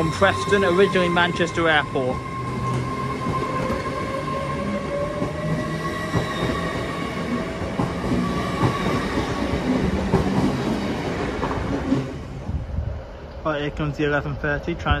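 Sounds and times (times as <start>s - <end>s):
train whine: 0.0s - 15.0s.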